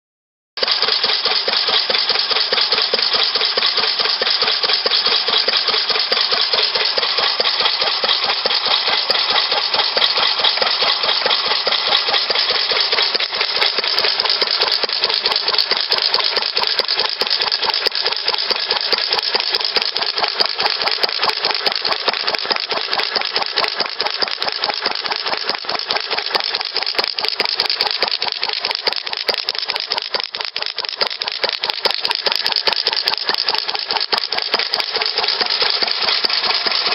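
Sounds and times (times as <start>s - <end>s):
stationary gas engine running: 0.6s - 36.9s.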